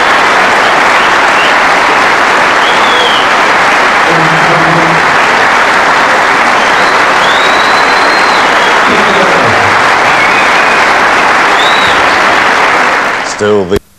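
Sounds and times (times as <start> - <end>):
large audience applauding: 0.0 - 13.6.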